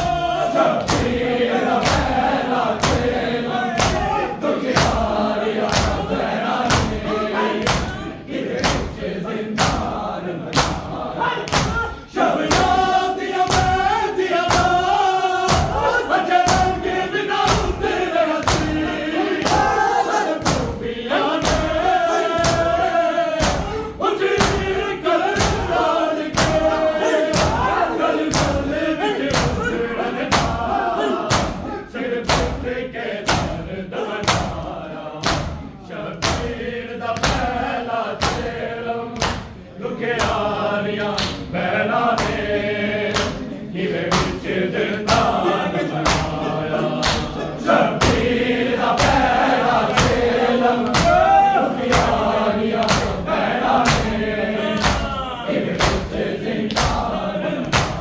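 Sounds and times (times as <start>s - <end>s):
men chanting together: 0.0s - 58.0s
hands slapping chests: 0.8s - 9.0s, 9.6s - 16.8s, 17.4s - 20.8s, 21.4s - 22.8s, 23.4s - 23.8s, 24.4s - 24.7s, 25.3s - 31.6s, 32.2s - 32.6s, 33.2s - 33.6s, 34.2s - 38.6s, 39.2s - 39.6s, 40.2s - 41.5s, 42.2s - 42.5s, 43.1s - 43.4s, 44.1s - 47.4s, 48.9s - 58.0s.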